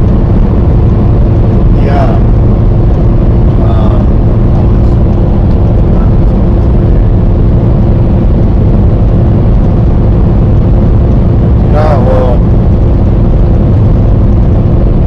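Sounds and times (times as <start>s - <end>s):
constant hum: 0.0s - 15.0s
truck engine and road drone: 0.0s - 15.0s.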